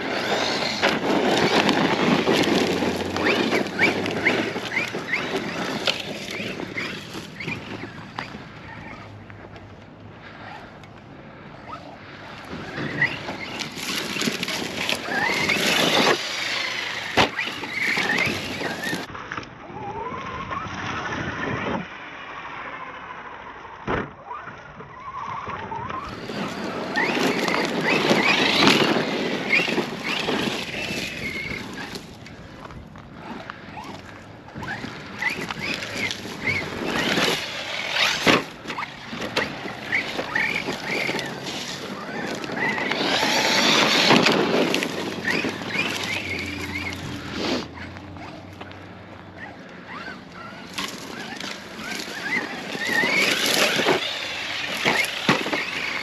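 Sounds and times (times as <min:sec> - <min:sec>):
rc truck electric motor whining: 0:00.0 - 0:09.2, 0:11.6 - 0:19.1, 0:24.2 - 0:56.0
tyres on gravel: 0:00.0 - 0:21.8, 0:24.3 - 0:56.0.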